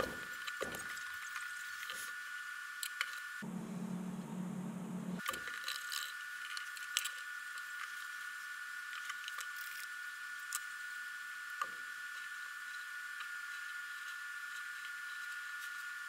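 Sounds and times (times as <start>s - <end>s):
high-pitched whine and hiss: 0.0s - 16.0s.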